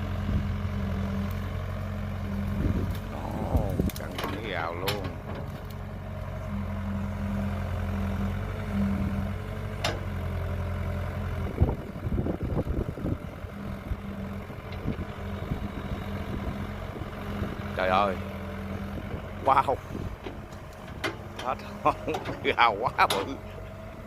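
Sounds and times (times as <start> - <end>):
excavator diesel engine: 0.0 - 24.0.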